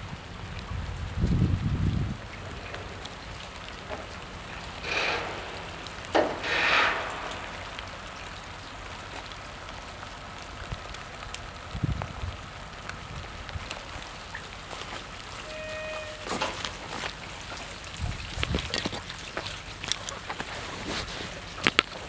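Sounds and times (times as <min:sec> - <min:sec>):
steady hiss like rain: 0:00.0 - 0:22.0.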